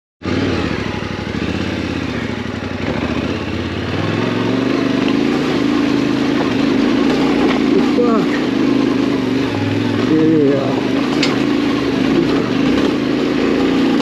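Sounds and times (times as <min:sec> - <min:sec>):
motorcycle engine running: 0:00.2 - 0:14.0.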